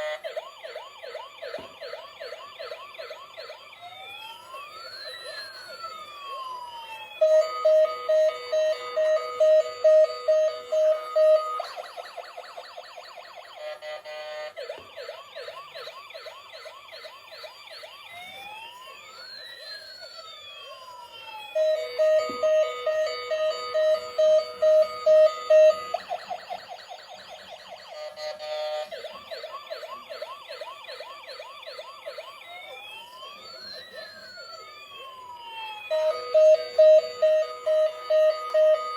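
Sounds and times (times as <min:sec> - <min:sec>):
toy electronic siren: 0:00.0 - 0:38.9.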